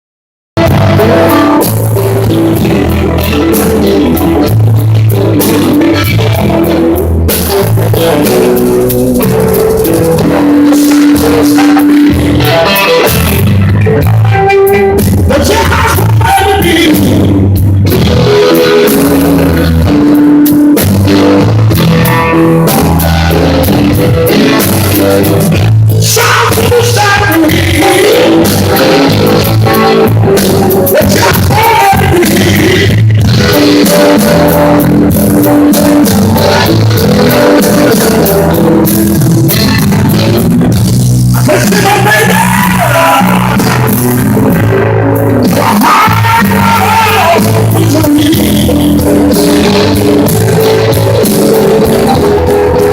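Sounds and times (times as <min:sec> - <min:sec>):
person singing: 0:00.6 - 0:06.8, 0:07.4 - 0:20.5, 0:25.2 - 0:40.4, 0:41.3 - 0:52.9
bass guitar: 0:00.6 - 0:52.9
drum kit with cymbals: 0:00.6 - 0:52.9
electric guitar: 0:00.6 - 0:52.9.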